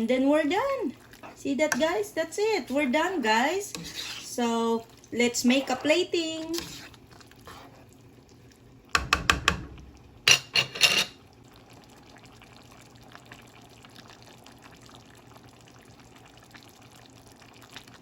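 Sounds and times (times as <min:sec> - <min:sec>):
faint liquid sounds: 0:00.0 - 0:09.0, 0:09.6 - 0:18.0.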